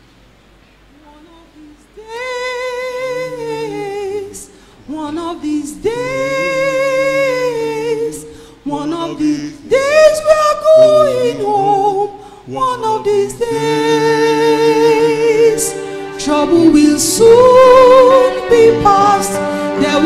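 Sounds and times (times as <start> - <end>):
choir singing a hymn: 2.0 - 20.0.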